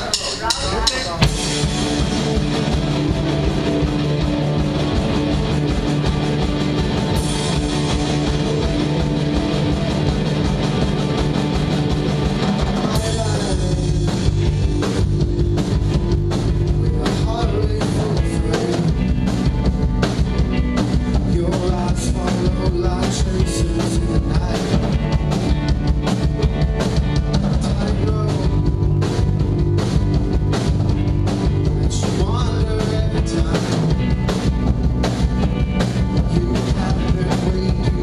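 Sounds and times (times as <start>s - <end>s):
drum kit: 0.0s - 38.0s
electric guitar: 1.2s - 38.0s.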